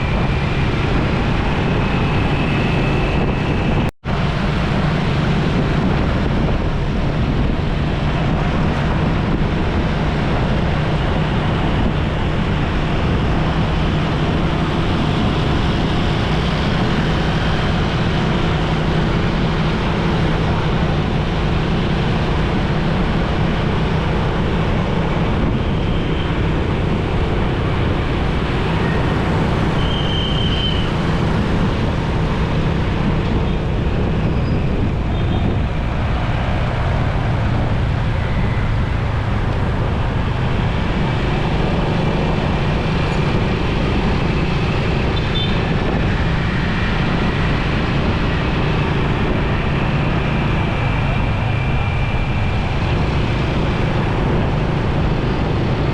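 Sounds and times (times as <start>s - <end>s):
road traffic: 0.0s - 55.9s
wind on microphone: 0.0s - 55.9s.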